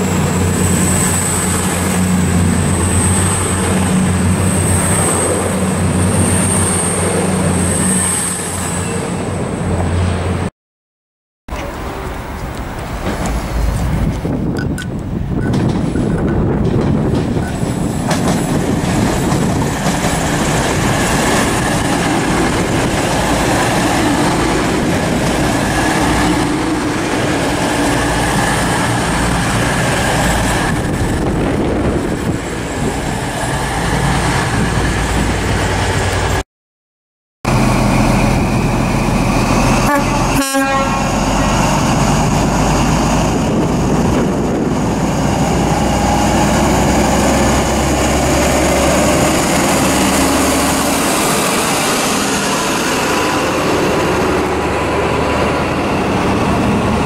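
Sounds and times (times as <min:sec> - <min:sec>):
train running past: 0:00.0 - 0:10.5, 0:11.6 - 0:36.4, 0:37.5 - 0:57.0.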